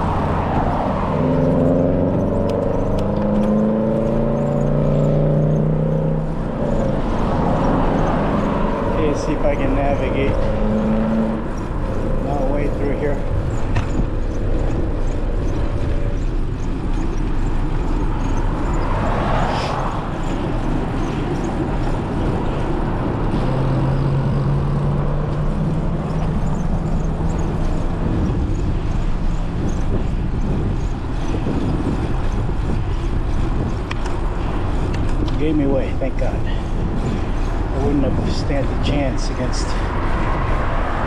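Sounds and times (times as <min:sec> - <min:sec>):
low engine hum: 0:00.0 - 0:41.0
vehicle passing: 0:00.0 - 0:41.0
wind and road noise: 0:00.0 - 0:41.0.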